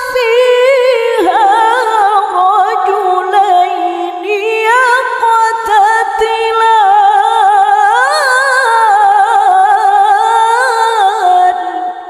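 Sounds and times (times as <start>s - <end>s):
woman reciting melodically: 0.0s - 12.0s.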